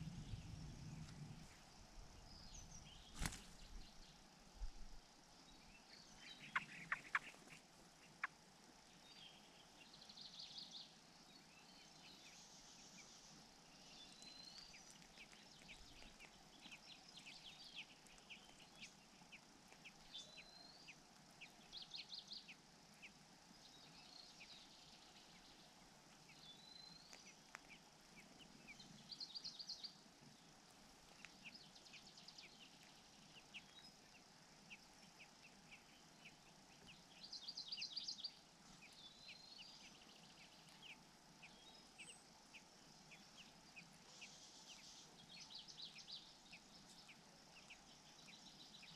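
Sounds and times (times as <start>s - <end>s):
faint bird chirps and trills: 0.0s - 48.9s.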